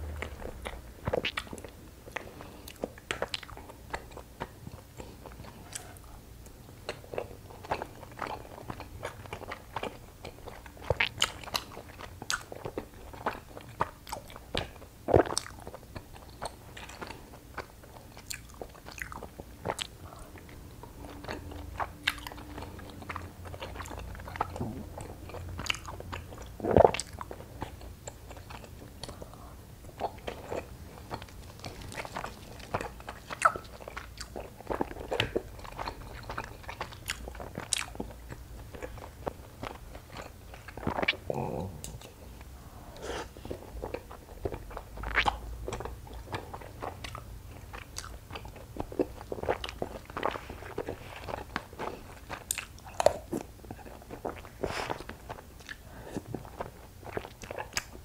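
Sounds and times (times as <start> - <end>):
chewing with wet mouth clicks: 0.2 - 42.5, 43.5 - 58.0.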